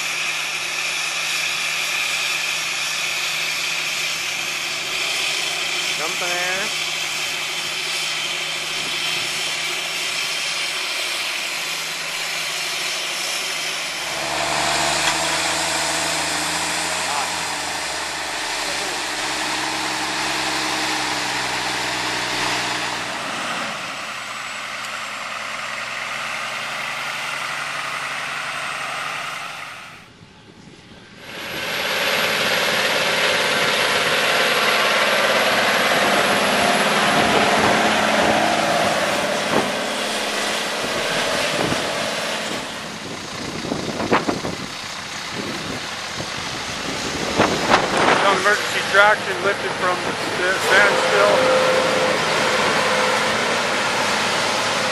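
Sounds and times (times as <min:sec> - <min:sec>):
truck engine pulling through mud: 0:00.0 - 0:30.2, 0:31.1 - 0:54.9
diesel engines running: 0:00.0 - 0:54.9.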